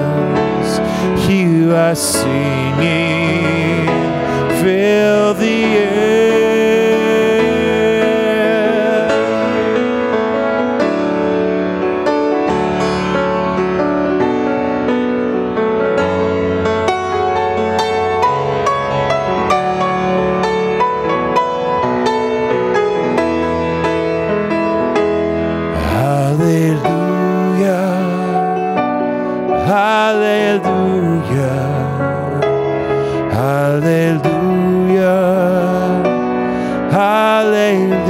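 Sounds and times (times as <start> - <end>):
grand piano playing gently: 0.0 - 38.0.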